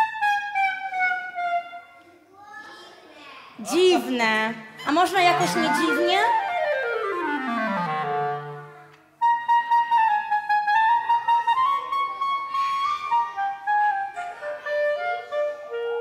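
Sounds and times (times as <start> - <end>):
solo clarinet: 0.0 - 2.0, 4.8 - 16.0.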